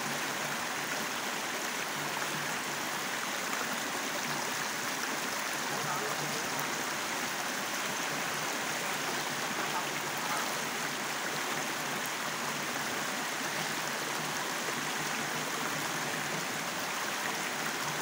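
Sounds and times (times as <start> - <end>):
stream running over stones: 0.0 - 18.0.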